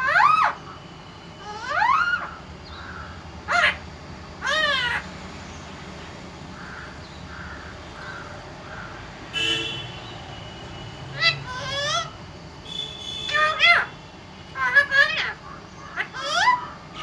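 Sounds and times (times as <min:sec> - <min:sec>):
parrot calling: 0:00.0 - 0:05.9, 0:06.5 - 0:17.0.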